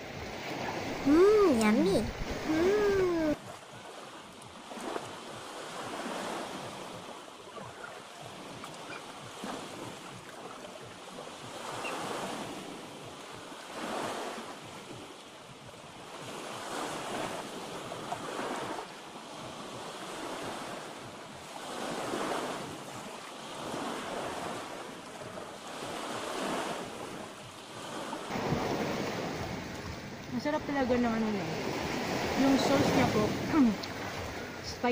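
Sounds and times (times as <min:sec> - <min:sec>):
sea waves washing ashore: 0:00.0 - 0:34.9.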